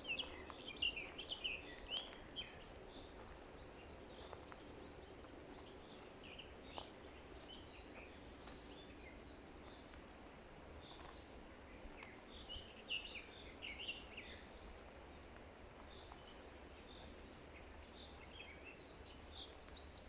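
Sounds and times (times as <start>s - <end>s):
soft forest hiss: 0.0s - 20.0s
songbirds chirping: 0.0s - 20.0s.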